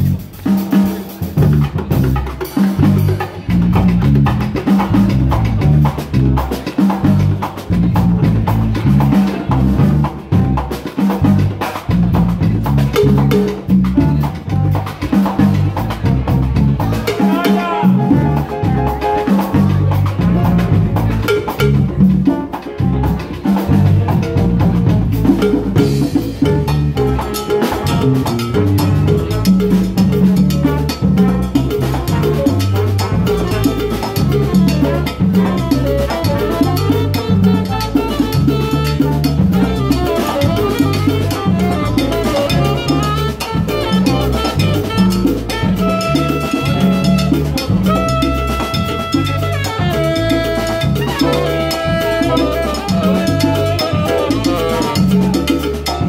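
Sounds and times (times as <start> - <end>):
conga and drum groove: 0.0 - 56.0
repeating bass line: 0.0 - 56.0
salsa band playing: 0.0 - 56.0.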